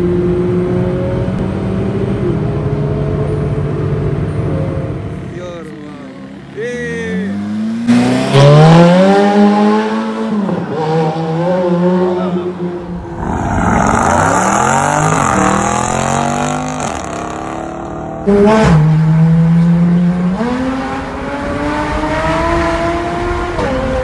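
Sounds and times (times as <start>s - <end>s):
sports car engines revving: 0.0s - 24.0s.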